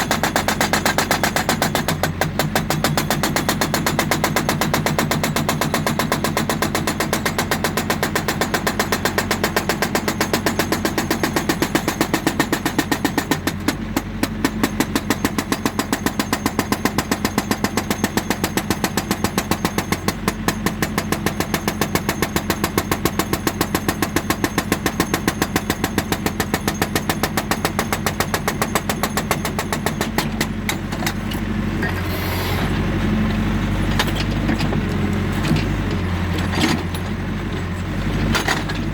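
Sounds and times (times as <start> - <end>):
diesel engine running under load: 0.0 - 38.9
hydraulic breaker hammering rock: 0.0 - 38.9.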